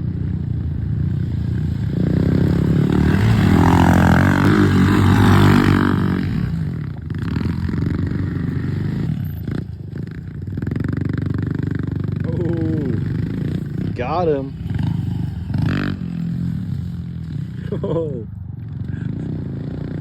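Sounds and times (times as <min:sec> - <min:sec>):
pit bike engine revving: 0:00.0 - 0:18.2.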